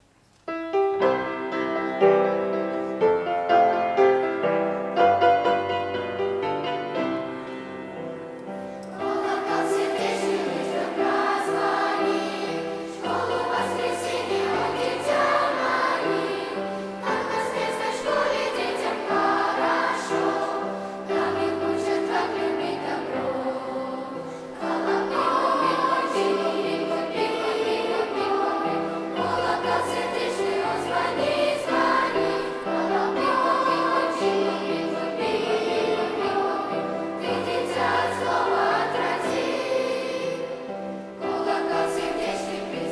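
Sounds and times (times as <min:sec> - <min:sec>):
children's choir singing: 0:01.1 - 0:42.9.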